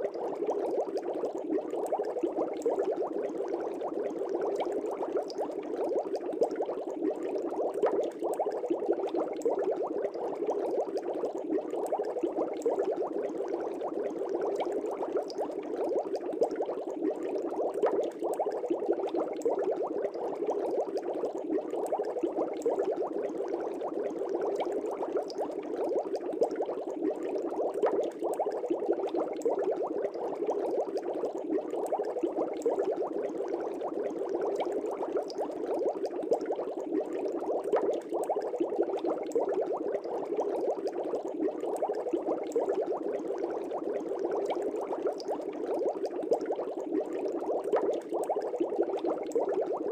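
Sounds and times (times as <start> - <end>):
air bubbles in fish tank: 0.0 - 49.9.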